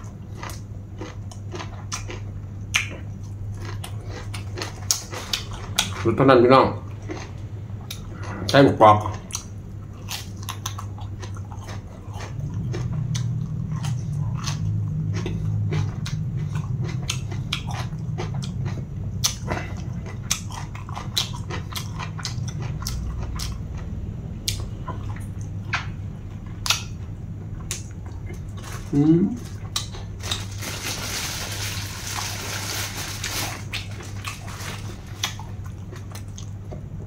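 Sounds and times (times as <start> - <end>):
crisp chewing crunches: 0.0 - 6.2, 6.8 - 8.4, 9.0 - 25.8, 26.4 - 36.9
low steady hum: 0.0 - 37.0.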